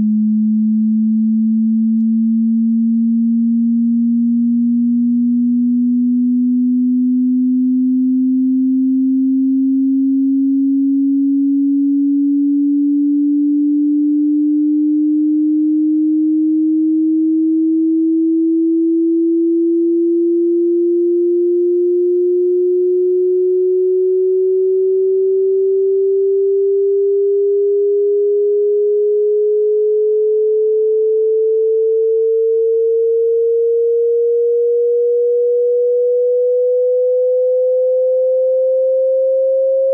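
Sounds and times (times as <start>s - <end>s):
sine wave tone sweeping upward: 0.0s - 39.9s.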